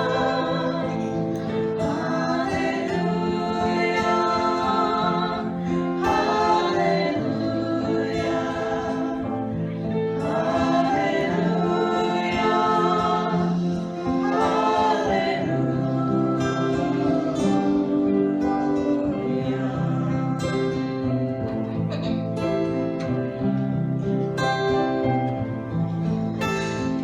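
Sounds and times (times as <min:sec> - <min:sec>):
voices singing in harmony: 0:00.0 - 0:23.5
strummed acoustic guitar: 0:00.0 - 0:27.0.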